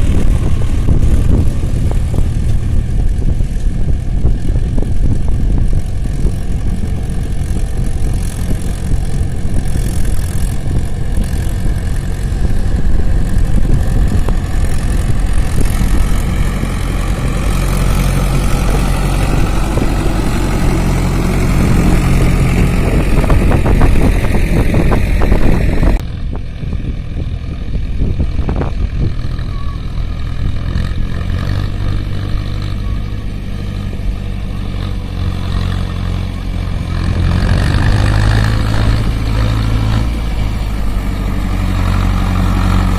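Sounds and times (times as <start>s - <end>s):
tractor engine revving up: 0.0s - 42.9s
tractor engines running: 0.0s - 42.9s.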